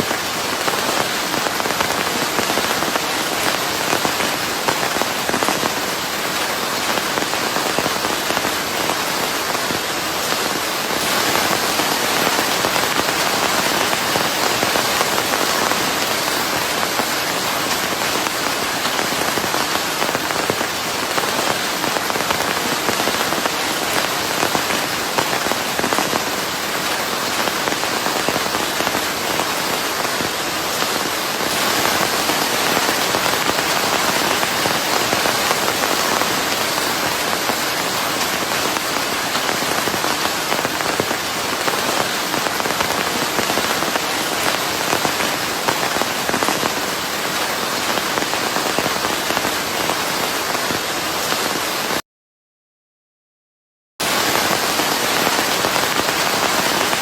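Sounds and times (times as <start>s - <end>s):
dense rain hiss: 0.0s - 52.0s, 54.0s - 57.0s.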